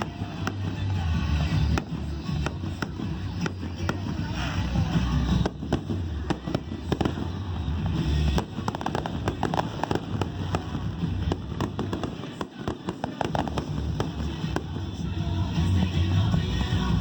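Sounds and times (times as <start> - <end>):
fireworks cracking and popping: 0.0 - 17.0
fireworks low booms: 0.0 - 17.0.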